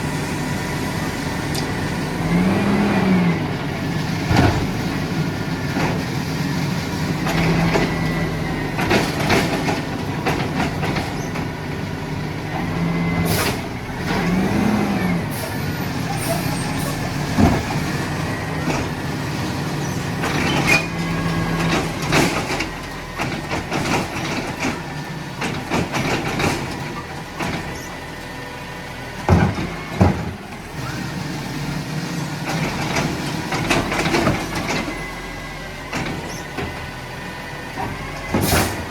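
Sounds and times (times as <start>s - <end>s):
garbage truck engine running: 0.0s - 38.9s.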